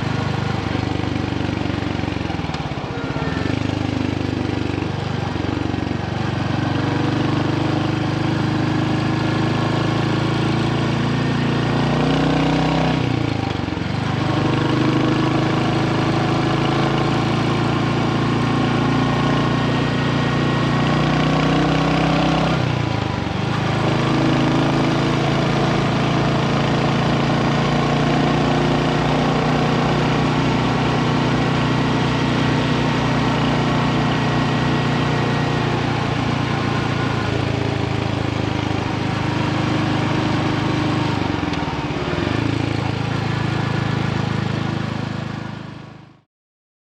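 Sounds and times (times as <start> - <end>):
motorcycle engine running: 0.0 - 46.3.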